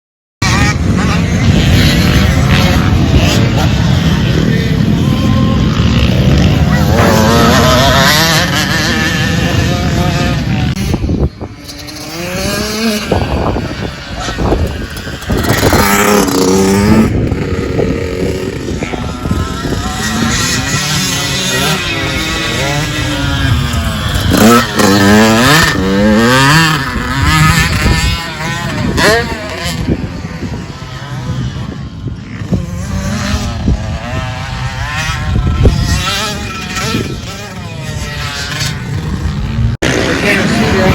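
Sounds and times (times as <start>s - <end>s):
dirt bike engine revving: 0.4s - 40.9s.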